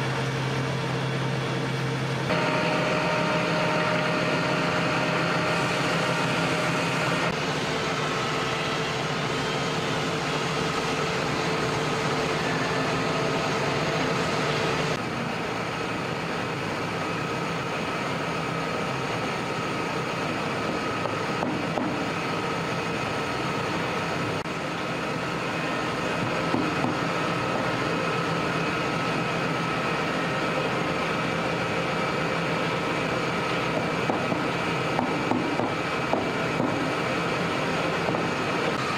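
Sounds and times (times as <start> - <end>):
woodworking machinery humming: 0.0 - 38.9.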